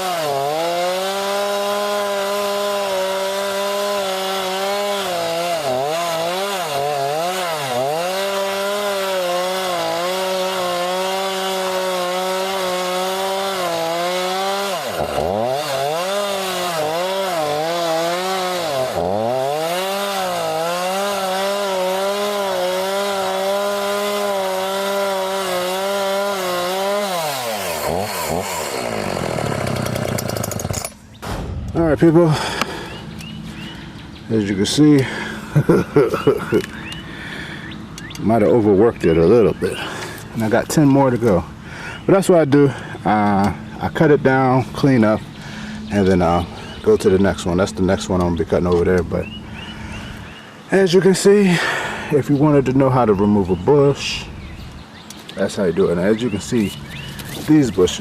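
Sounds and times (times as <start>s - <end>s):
chainsaw cutting wood: 0.0s - 31.7s, 32.3s - 50.3s, 56.2s - 58.0s.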